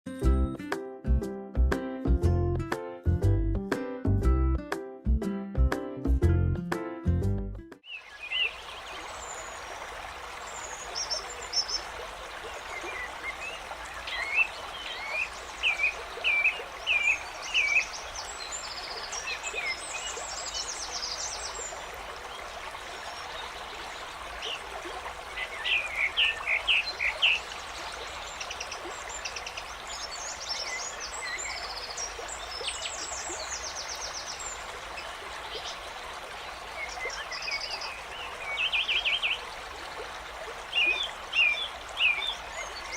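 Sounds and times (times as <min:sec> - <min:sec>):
birds chirping: 0:07.8 - 0:09.7, 0:10.4 - 0:42.9
stream running: 0:07.8 - 0:42.9.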